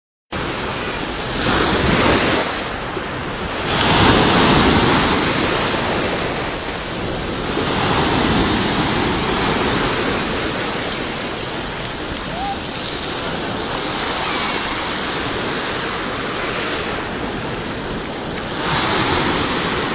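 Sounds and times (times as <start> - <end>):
waves crashing: 0.4 - 19.9.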